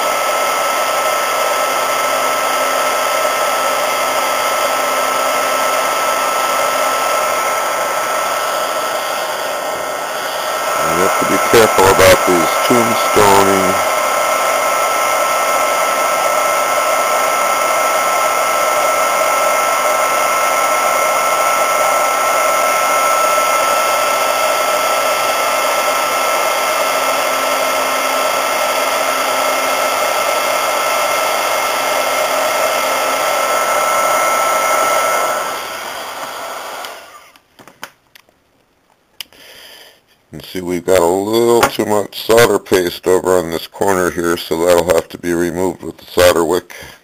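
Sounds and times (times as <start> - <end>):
heat gun blowing with whine: 0.0 - 37.5, 39.2 - 47.0.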